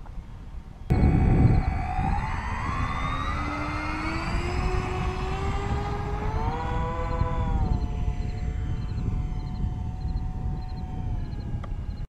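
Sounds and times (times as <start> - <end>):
model plane motors whining: 0.9 - 12.0.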